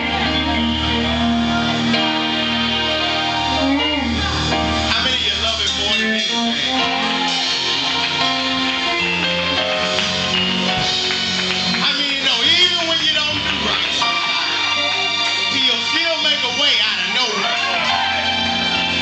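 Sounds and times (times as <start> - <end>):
worship band music with guitar: 0.0 - 19.0.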